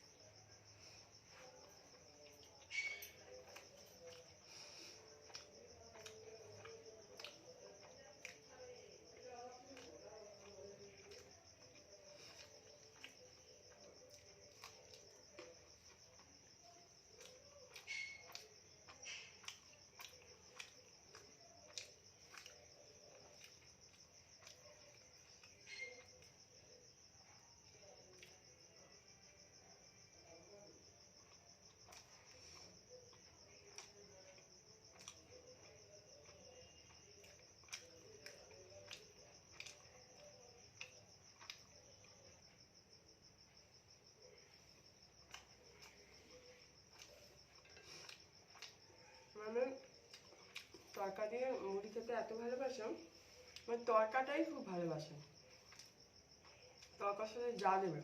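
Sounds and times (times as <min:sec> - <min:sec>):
crickets chirring: 0:00.0 - 0:58.0
soft clicks of eating: 0:00.0 - 0:58.0.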